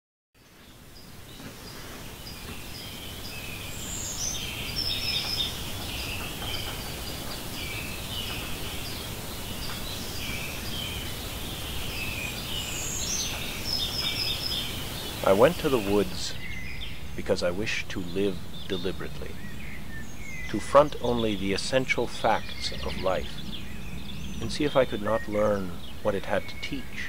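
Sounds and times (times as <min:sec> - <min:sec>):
low background noise: 0:00.4 - 0:27.0
small birds chirping: 0:00.4 - 0:27.0.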